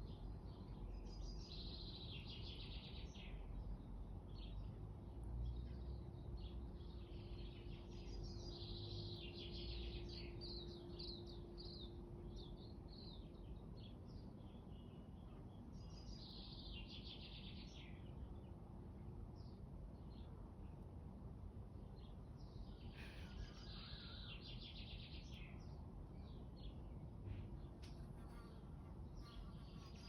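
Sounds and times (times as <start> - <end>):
small birds chirping: 0.0 - 18.6, 21.9 - 30.0
faint steady hum: 0.0 - 30.0.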